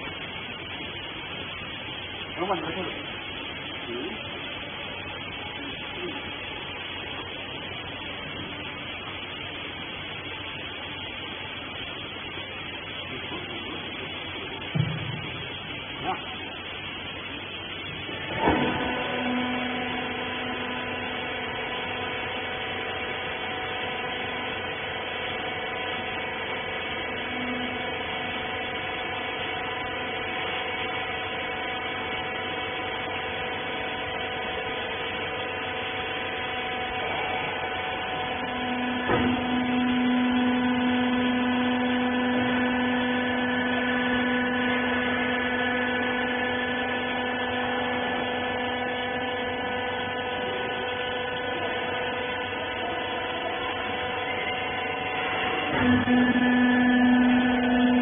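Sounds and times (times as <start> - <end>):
hydraulic power unit humming: 0.0 - 58.0.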